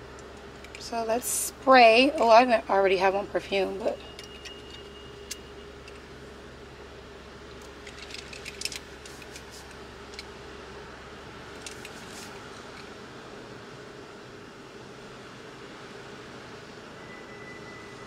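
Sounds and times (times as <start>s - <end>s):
low hum inside car: 0.0s - 18.0s.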